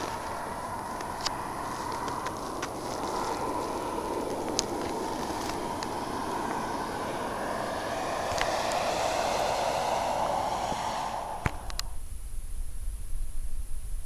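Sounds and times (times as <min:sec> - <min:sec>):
steady rushing outdoor noise: 0:00.0 - 0:12.2.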